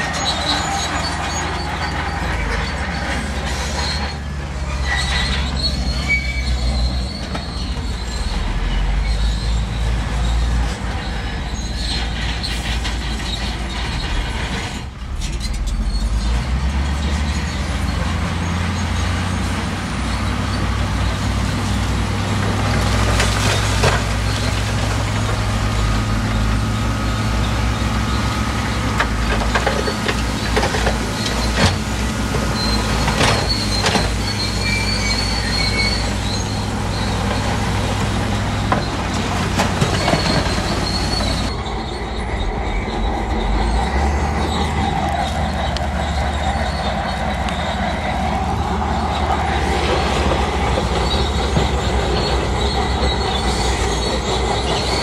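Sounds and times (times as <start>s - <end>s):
bulldozer diesel engine running: 0.0s - 55.0s
steel tracks squealing: 0.0s - 55.0s.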